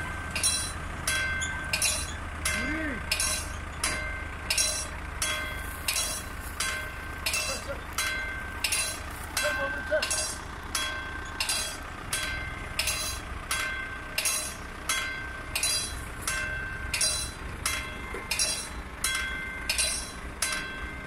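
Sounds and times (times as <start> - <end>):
level crossing warning bell: 0.0 - 21.0.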